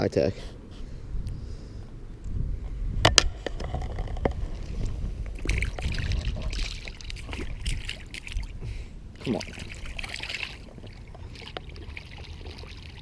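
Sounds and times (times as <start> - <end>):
wind buffeting microphone: 0.8 - 13.0.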